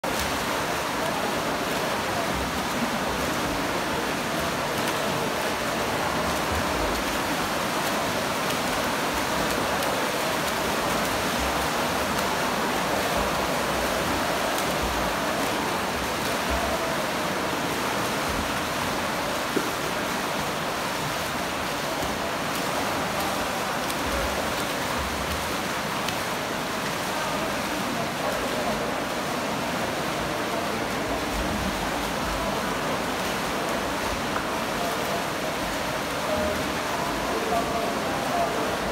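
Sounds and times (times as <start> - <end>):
swimmers splashing water: 0.0 - 38.9.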